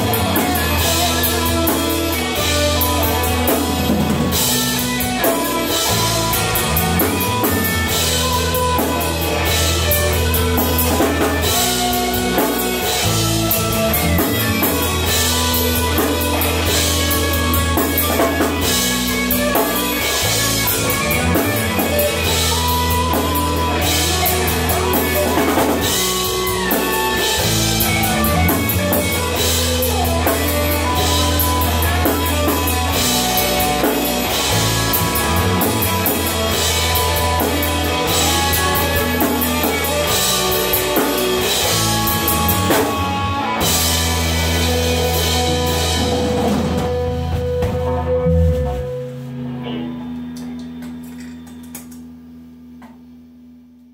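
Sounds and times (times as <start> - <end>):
loud bass line: 0.0 - 50.9
rock band playing live: 0.0 - 52.4.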